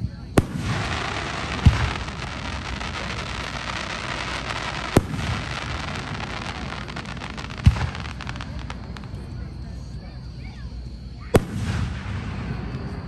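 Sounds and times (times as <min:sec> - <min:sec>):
fireworks bangs: 0:00.0 - 0:09.4, 0:11.3 - 0:13.0
fireworks crackling: 0:00.0 - 0:10.5, 0:11.2 - 0:13.0.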